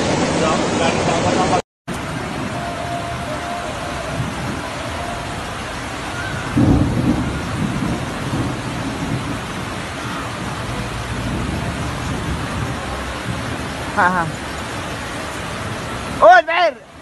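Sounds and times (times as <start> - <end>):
floodwater rushing: 0.0 - 17.0
rainstorm: 0.0 - 17.0.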